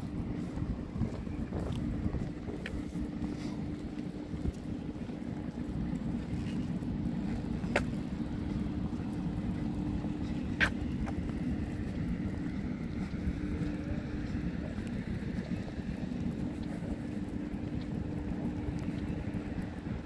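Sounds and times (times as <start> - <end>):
faint hum: 0.0 - 20.0
low rumble: 0.0 - 20.0.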